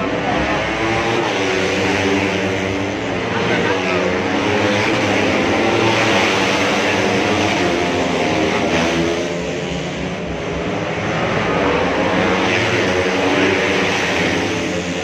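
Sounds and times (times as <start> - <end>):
racing motorcycle engines revving: 0.0 - 15.0.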